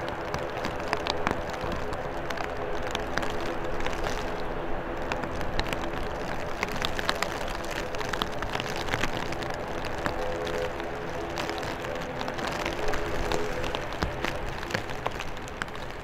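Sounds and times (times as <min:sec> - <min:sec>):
turboprop engines humming: 0:00.0 - 0:15.7
rain: 0:00.0 - 0:16.0
raindrops ticking: 0:00.0 - 0:16.0.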